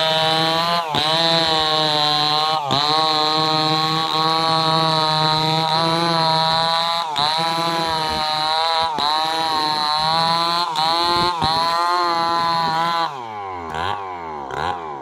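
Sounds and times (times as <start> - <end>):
chainsaw cutting log: 0.0 - 15.0.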